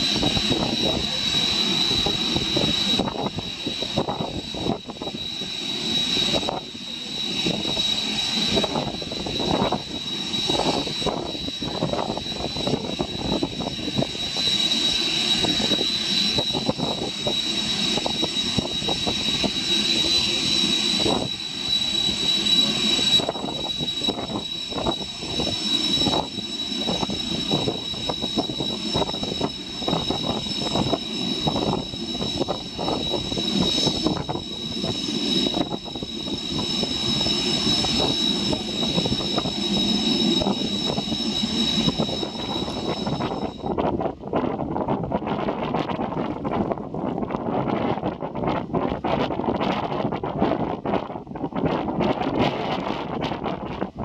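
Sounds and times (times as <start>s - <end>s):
jet engines whining and rumbling: 0.0s - 54.0s
wind gusting on microphone: 0.0s - 54.0s.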